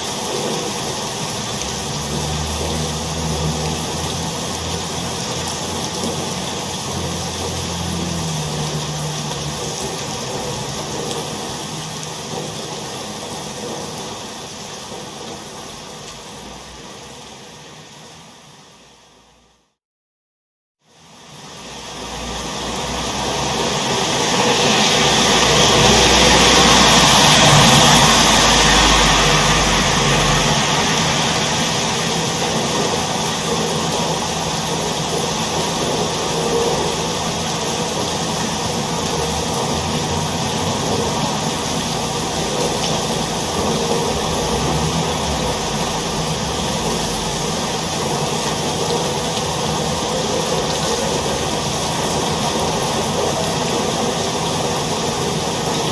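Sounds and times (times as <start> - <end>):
heavy rain hissing: 0.0 - 19.6, 20.9 - 55.9.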